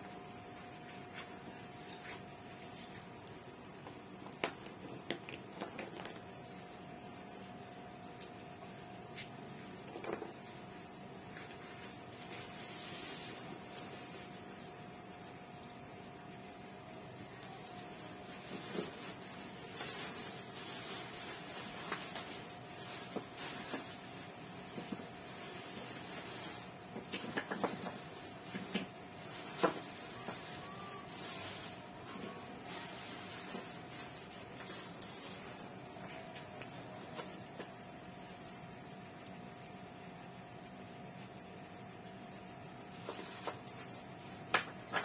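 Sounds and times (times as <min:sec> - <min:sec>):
faint steady hum: 0:00.0 - 0:45.0
room noise hiss: 0:00.0 - 0:45.0.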